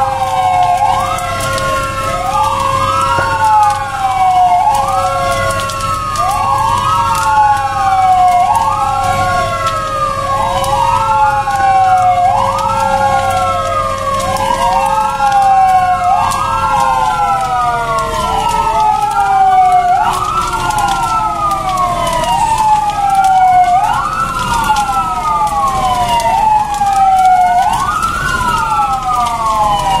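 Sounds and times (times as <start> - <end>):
sirens wailing: 0.0 - 30.0.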